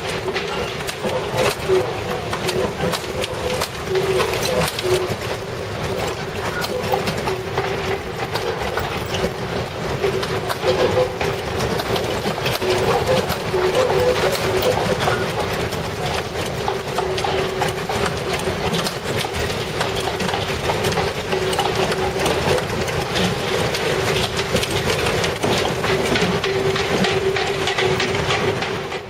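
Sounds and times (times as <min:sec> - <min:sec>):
continuous rumbling: 0:00.0 - 0:29.0
dense rattling and clattering: 0:00.0 - 0:29.0.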